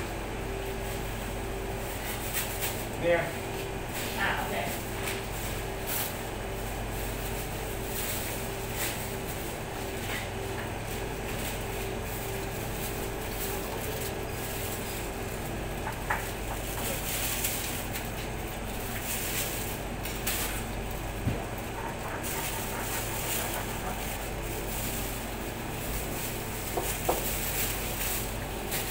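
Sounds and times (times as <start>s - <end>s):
motor or fan hum: 0.0s - 28.9s.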